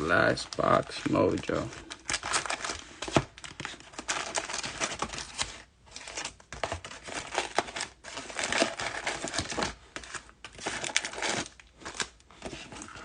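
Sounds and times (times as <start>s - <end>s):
card pack wrappers crinkling and tearing: 0.0s - 13.0s.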